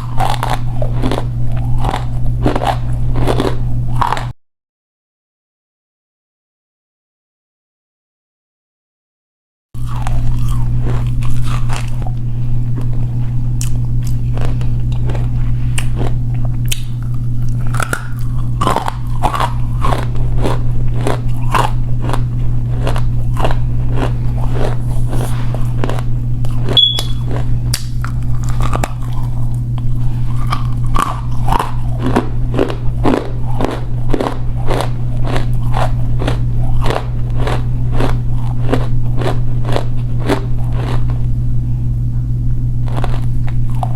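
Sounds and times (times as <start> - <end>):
person chewing crunchy food: 0.0 - 4.3, 9.8 - 43.9
steady low hum: 0.0 - 4.3, 9.8 - 43.9.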